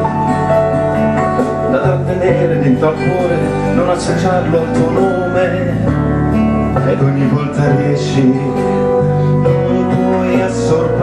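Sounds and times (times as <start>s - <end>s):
guitar-led band: 0.0s - 11.0s
man singing pop ballad: 0.0s - 11.0s.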